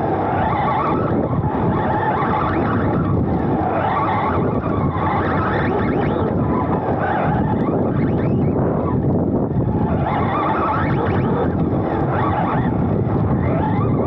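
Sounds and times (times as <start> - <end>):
chassis and tyres rattling: 0.0 - 14.0
electric motor whining: 0.0 - 14.0.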